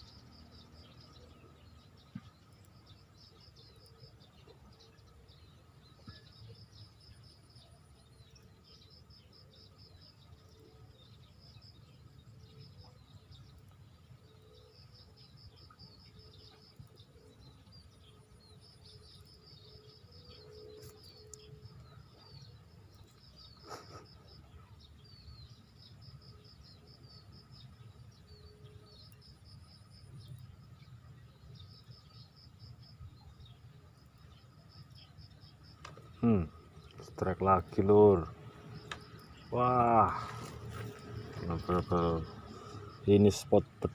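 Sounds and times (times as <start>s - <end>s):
bird calls: 0.0s - 43.9s
insects chirping: 0.0s - 43.9s.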